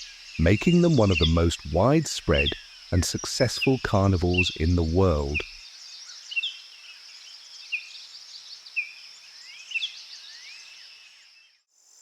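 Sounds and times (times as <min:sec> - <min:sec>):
birds chirping: 0:00.0 - 0:11.3.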